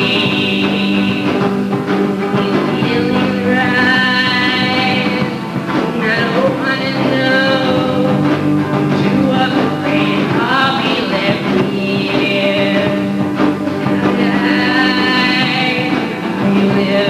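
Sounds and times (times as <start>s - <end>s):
acoustic guitar chords: 0.0s - 17.0s
person singing: 0.0s - 17.0s.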